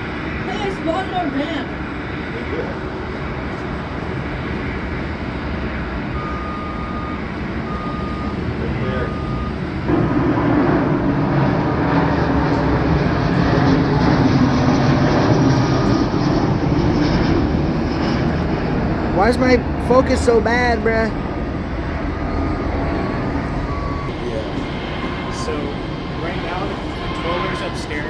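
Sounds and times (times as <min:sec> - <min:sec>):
jet aircraft engine noise: 0:00.0 - 0:28.0.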